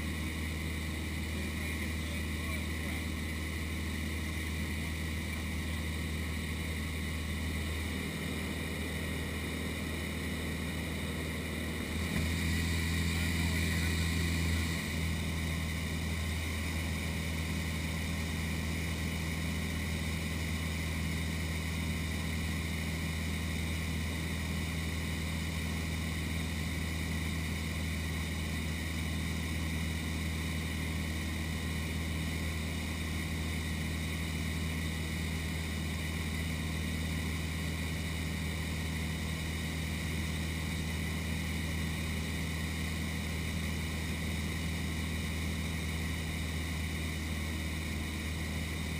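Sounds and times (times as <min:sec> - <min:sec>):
light aircraft engine droning: 0:00.0 - 0:48.9.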